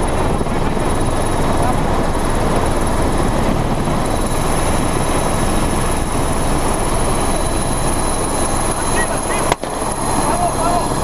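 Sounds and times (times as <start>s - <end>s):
helicopter rotor and engine drone: 0.0s - 11.0s.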